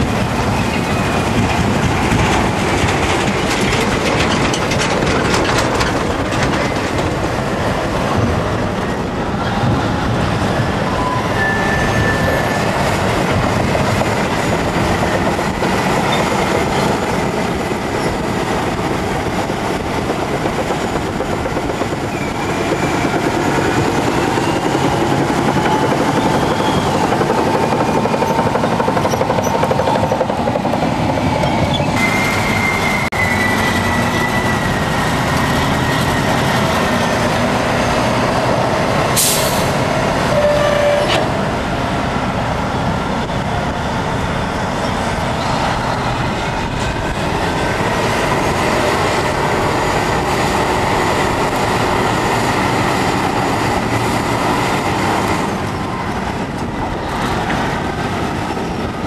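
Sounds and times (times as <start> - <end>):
heavy diesel engine under load: 11.5 - 59.0.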